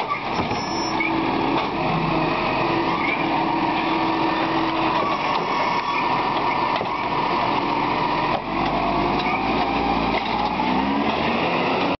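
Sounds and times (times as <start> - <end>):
hydraulic arm whine: 0.1 - 12.0.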